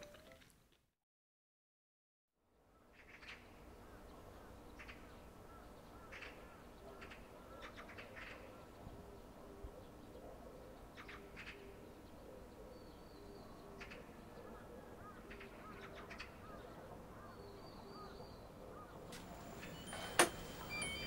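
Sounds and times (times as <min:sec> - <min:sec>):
faint outdoor ambience: 0:02.4 - 0:21.0
bird calls and chirps: 0:02.7 - 0:21.0.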